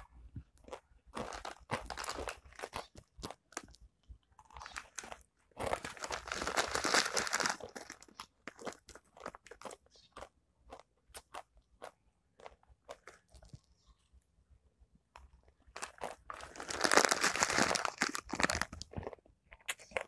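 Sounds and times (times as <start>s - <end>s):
person chewing crunchy snack: 0.5s - 13.8s, 15.2s - 20.0s.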